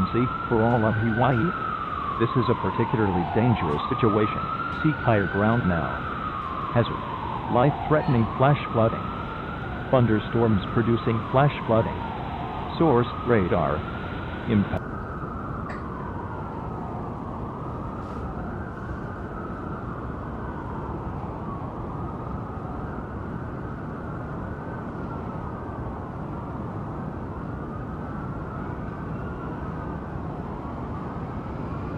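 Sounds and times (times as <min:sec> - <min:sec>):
sirens wailing: 0:00.0 - 0:31.9.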